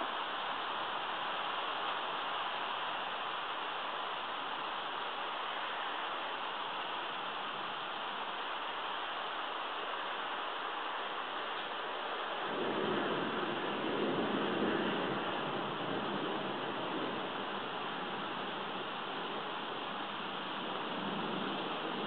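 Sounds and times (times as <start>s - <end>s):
steady rain hissing: 0.0s - 22.0s.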